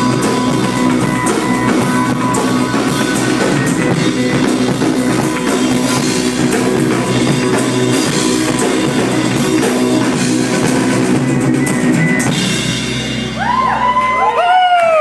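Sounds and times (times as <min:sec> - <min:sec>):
high sliding guitar tones: 0:00.0 - 0:14.3
rock band playing: 0:00.0 - 0:14.8.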